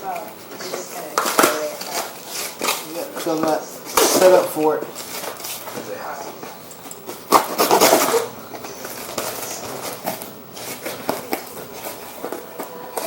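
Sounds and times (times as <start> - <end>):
objects rubbing and scraping: 0.1 - 13.0.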